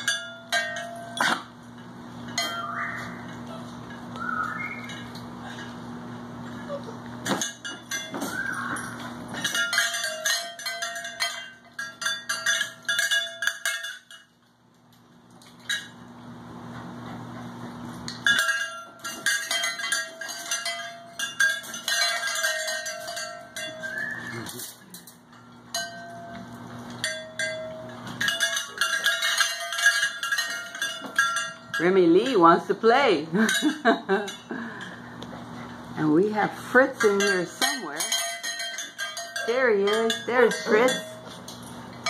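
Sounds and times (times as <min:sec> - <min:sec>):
metal bowl ringing: 0:00.0 - 0:05.8, 0:06.5 - 0:14.4, 0:18.2 - 0:35.1, 0:36.4 - 0:42.0
puppies eating from metal bowls: 0:00.0 - 0:42.0.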